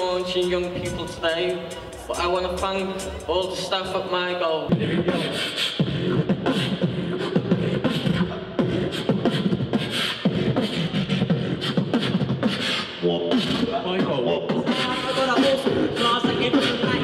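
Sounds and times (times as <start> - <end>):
beatboxing into microphones: 0.0 - 17.0.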